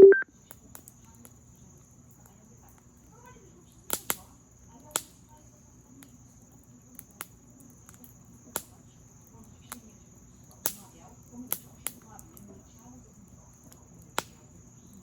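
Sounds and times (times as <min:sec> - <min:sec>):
crickets chirring: 0:00.0 - 0:15.0
campfire popping and crackling: 0:00.3 - 0:15.0.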